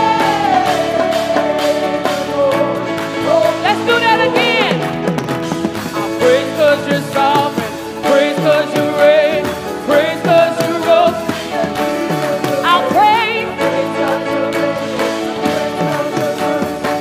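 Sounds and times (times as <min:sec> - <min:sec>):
gospel choir singing: 0:00.0 - 0:17.0
instrumental accompaniment: 0:00.0 - 0:17.0
lead voice singing with vibrato: 0:00.0 - 0:17.0.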